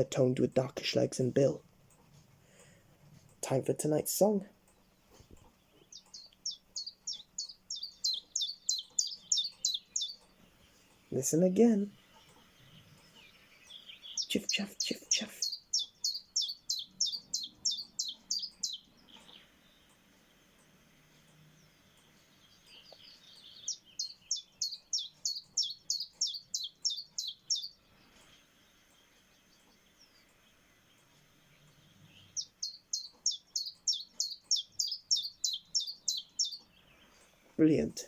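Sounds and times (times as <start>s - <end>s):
chiffchaff singing: 3.3s - 38.0s.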